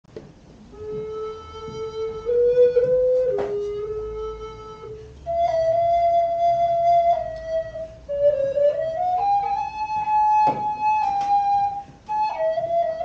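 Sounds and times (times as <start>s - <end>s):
flute-like woodwind held notes: 0.7s - 13.0s.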